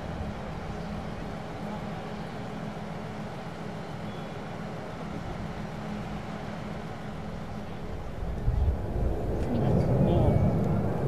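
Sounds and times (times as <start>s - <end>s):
distant jet engines droning: 0.0s - 11.0s.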